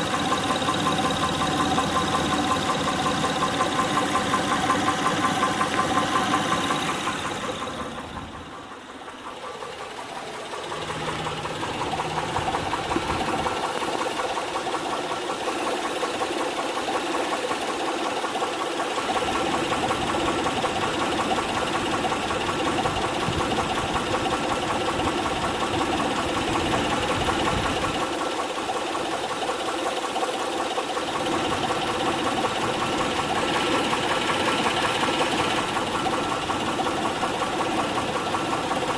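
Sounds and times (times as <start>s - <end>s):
car engine knocking: 0.0s - 38.9s.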